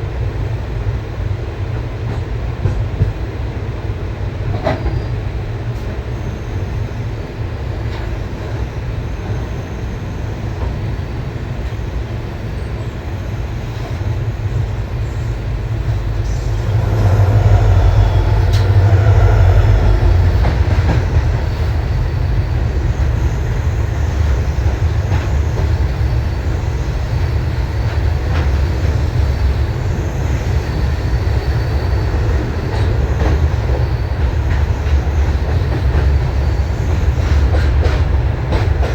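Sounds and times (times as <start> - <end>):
train rumbling: 0.1 - 38.9.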